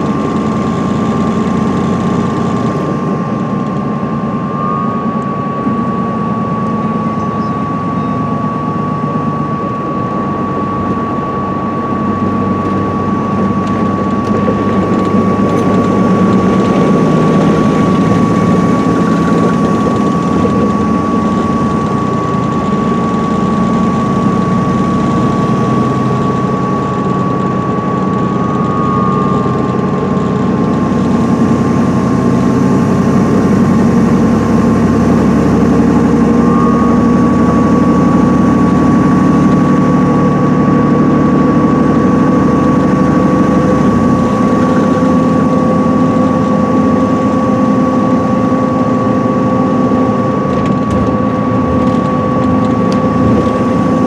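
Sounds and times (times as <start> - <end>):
coach engine drone: 0.0 - 54.0
road noise: 0.0 - 54.0
thin high whine: 0.0 - 54.0.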